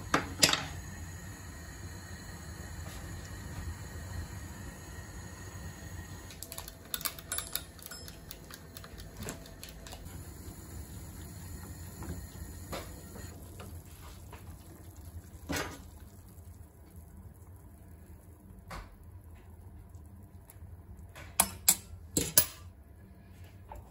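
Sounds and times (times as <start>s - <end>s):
water boiling in a saucepan: 0.0s - 23.9s.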